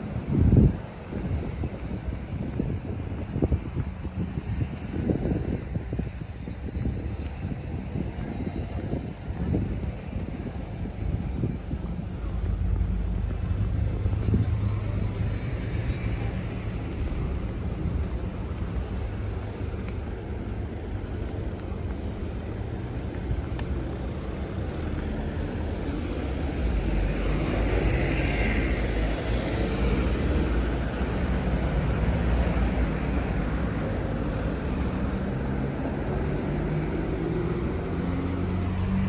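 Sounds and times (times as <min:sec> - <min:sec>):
passing vehicles rumbling: 0:00.0 - 0:39.0.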